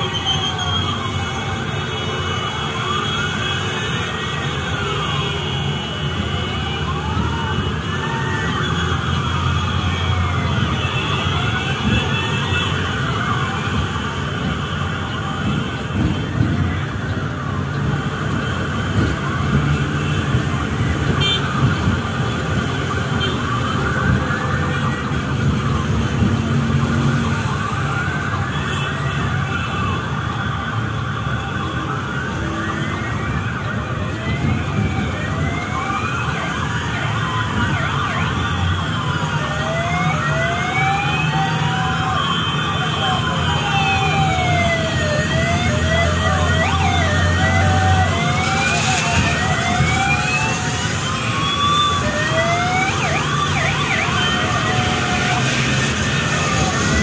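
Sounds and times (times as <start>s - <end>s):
motorcycle engines and road rumble: 0.0s - 57.0s
police sirens wailing: 0.0s - 57.0s.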